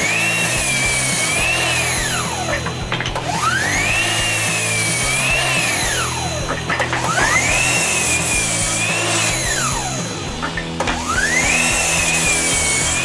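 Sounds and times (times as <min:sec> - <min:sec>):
background music: 0:00.0 - 0:13.0
miter saw motor whine: 0:00.0 - 0:13.0.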